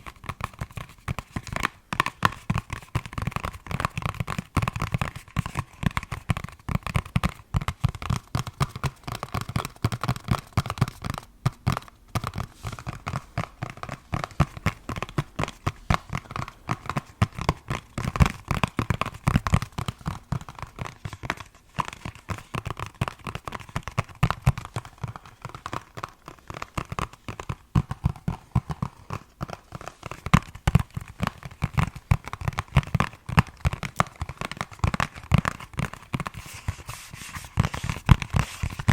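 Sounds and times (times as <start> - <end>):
fast tapping on hard object: 0.0 - 38.9.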